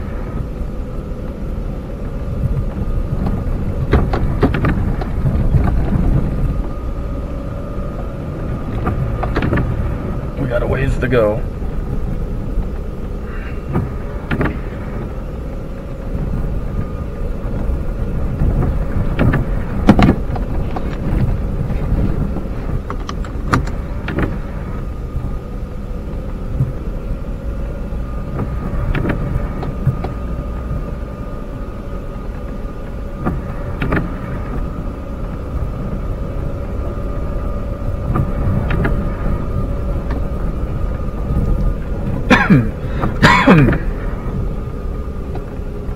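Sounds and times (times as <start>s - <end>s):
engine and tyre rumble: 0.0s - 45.9s
steady whine: 0.0s - 45.9s.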